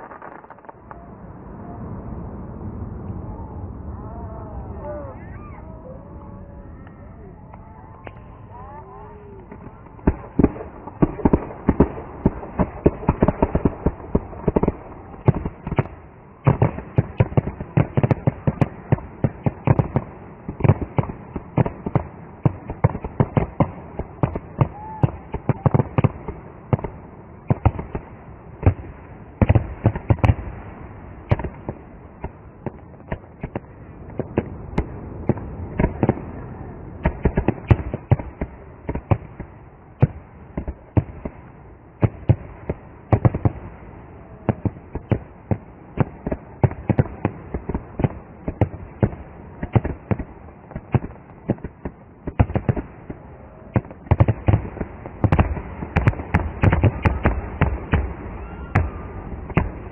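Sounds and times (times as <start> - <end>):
fireworks bangs and crackling: 0.0 - 1.1, 9.4 - 59.9.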